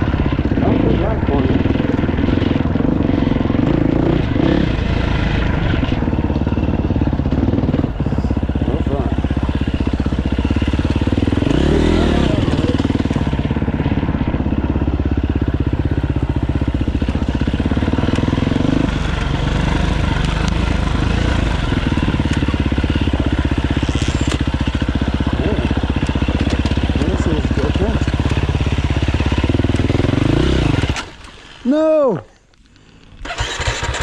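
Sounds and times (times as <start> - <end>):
dirt bike engine running: 0.0 - 32.1, 33.1 - 34.0.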